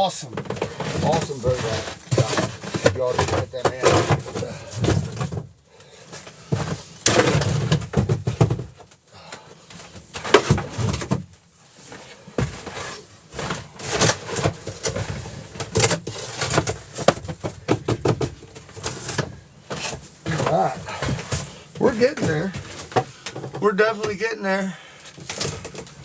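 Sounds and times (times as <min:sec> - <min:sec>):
objects knocking and scraping: 0:00.2 - 0:09.0, 0:09.7 - 0:26.0.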